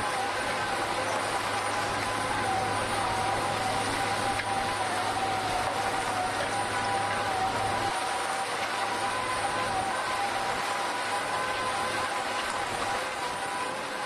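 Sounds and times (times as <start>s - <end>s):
piling rig droning: 0.0s - 14.0s.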